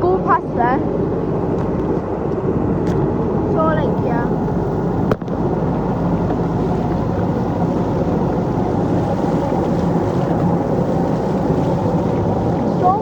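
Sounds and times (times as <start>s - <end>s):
boat engine running: 0.0s - 13.0s
wind noise on microphone: 0.0s - 13.0s.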